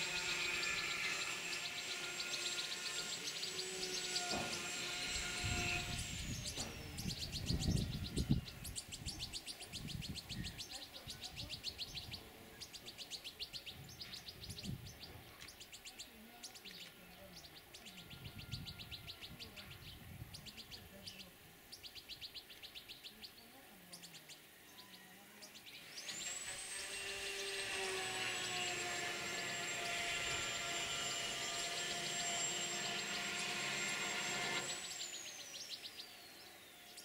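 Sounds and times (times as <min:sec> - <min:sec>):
finch trilled twittering: 0:00.0 - 0:26.3, 0:27.0 - 0:37.0.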